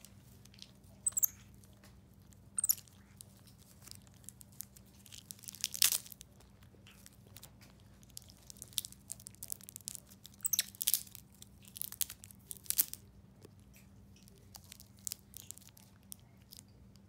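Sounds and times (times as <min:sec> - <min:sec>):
plastic wrapper crackling: 0:00.0 - 0:13.1, 0:14.2 - 0:16.7
teeth crunching on hard candy: 0:00.4 - 0:17.0.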